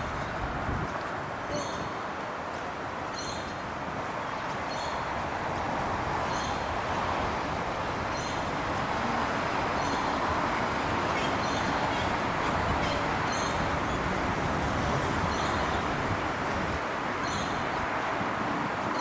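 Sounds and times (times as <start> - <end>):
tram running noise: 3.7 - 19.0.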